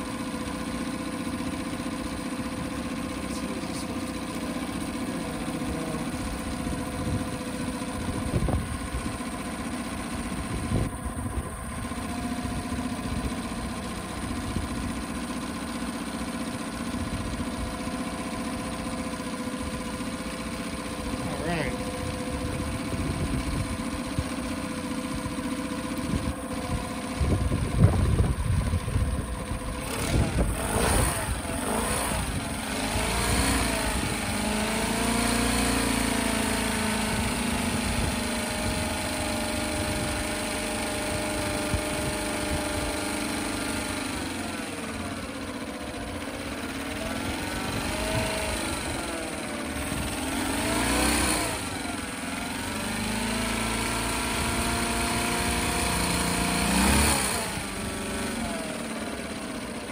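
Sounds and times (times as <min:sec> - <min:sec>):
outboard motor revving: 0:00.0 - 0:59.9.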